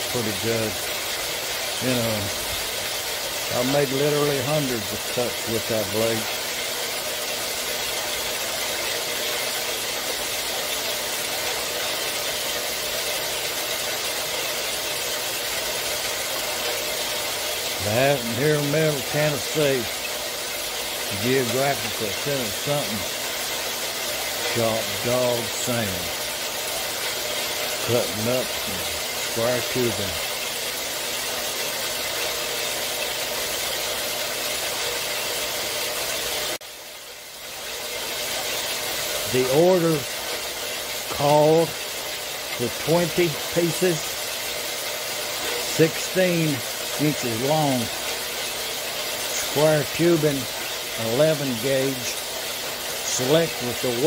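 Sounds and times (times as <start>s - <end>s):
bandsaw cutting steel tubing: 0.0s - 36.6s, 37.5s - 54.0s.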